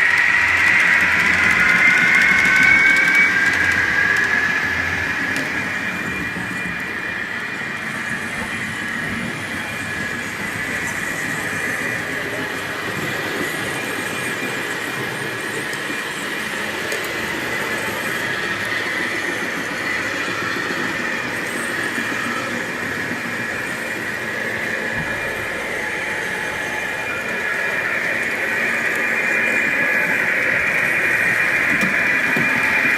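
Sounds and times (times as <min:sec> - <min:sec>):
high whine of model train motors: 0:00.0 - 0:32.9
model trains rolling: 0:00.0 - 0:32.9.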